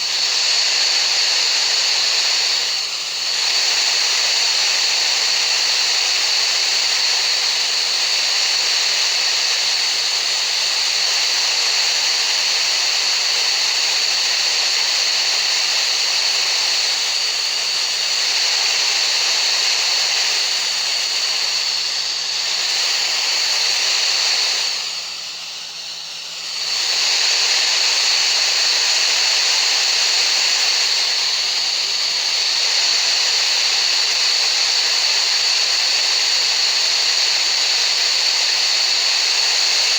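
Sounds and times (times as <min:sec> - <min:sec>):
steady hiss of noise: 0:00.0 - 0:39.9.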